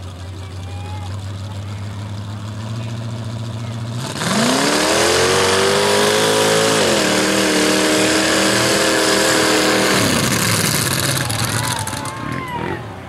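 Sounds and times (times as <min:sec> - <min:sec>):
vehicle engine at full throttle: 0:00.0 - 0:13.0.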